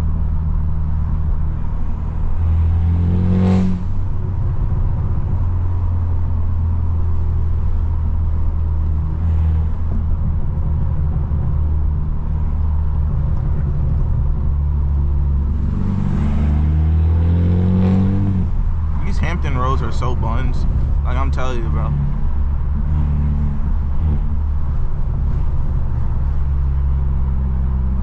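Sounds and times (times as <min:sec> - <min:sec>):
car exhaust droning: 0:00.0 - 0:28.0.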